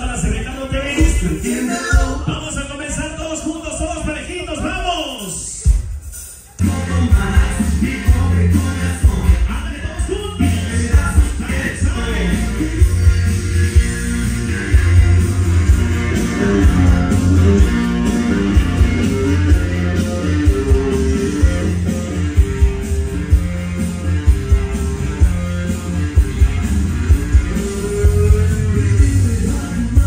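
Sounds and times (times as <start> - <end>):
loud dance music: 0.0 - 30.0.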